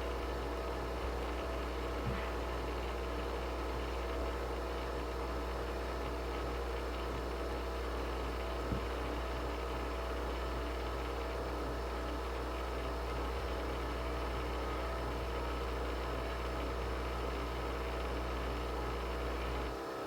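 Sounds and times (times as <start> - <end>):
coffee machine humming: 0.0 - 20.0.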